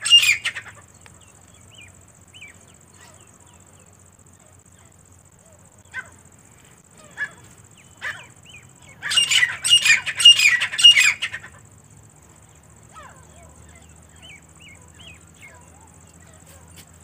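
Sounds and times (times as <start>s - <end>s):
francolin calling: 0.0s - 17.0s.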